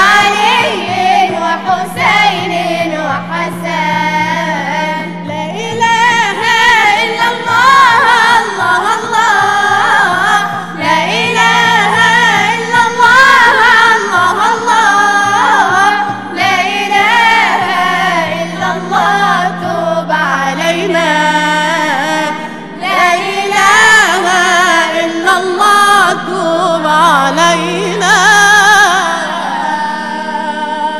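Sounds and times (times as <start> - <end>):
group singing a religious song: 0.0 - 30.9.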